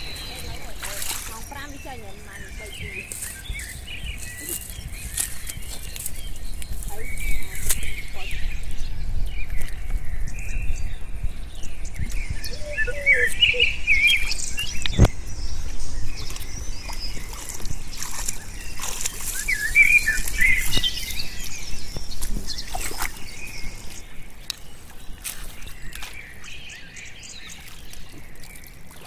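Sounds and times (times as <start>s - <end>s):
small birds chirping: 0.0s - 29.0s
splashing in muddy water: 0.0s - 29.0s.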